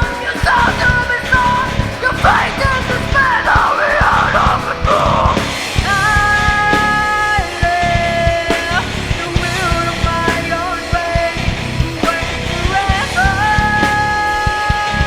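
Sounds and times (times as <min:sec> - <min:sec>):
loud punk rock music: 0:00.0 - 0:15.0.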